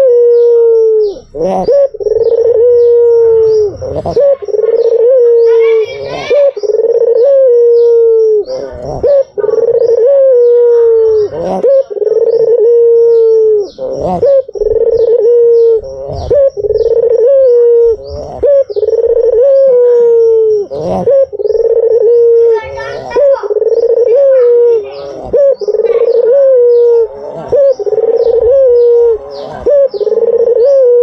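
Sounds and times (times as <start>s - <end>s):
dove cooing: 0.0s - 31.0s.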